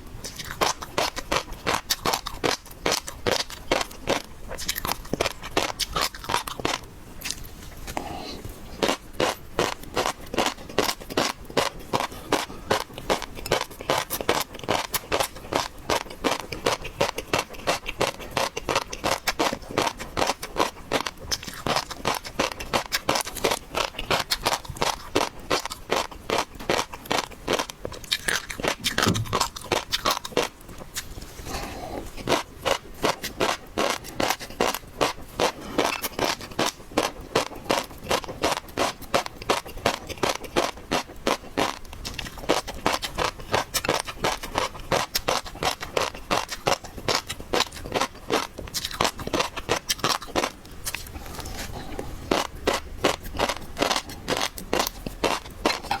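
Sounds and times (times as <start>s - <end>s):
chewing with wet mouth clicks: 0.2s - 8.0s, 8.8s - 31.2s, 32.0s - 56.0s.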